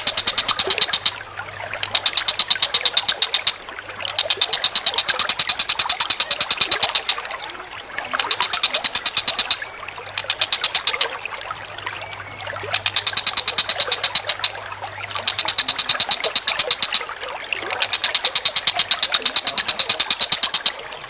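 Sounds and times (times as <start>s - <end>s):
bird rattling call: 0.0s - 7.3s, 8.2s - 11.2s, 12.6s - 20.8s
running water trickling: 0.0s - 21.0s.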